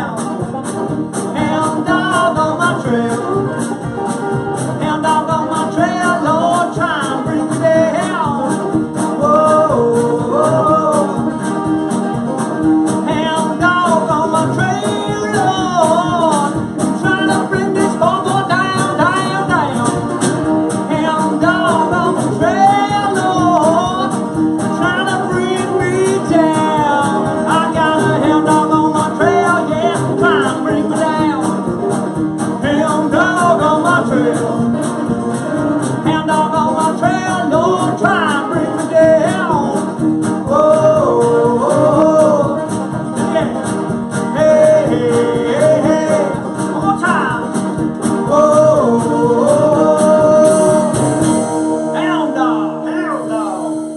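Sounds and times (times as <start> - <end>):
steady drum beat: 0.0 - 52.4
electric guitar: 0.0 - 53.9
strummed acoustic guitars: 0.0 - 53.9
voices singing: 0.0 - 53.9.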